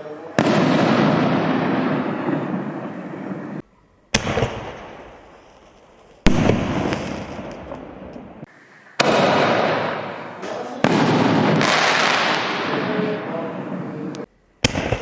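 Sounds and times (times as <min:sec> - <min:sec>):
firework bangs: 0:00.0 - 0:15.0
firework shells bursting: 0:00.3 - 0:15.0.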